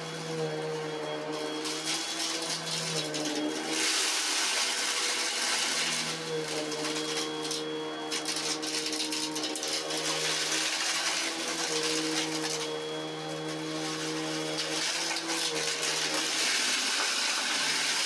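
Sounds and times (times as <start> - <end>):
vacuum cleaner on carpet: 0.0 - 18.0.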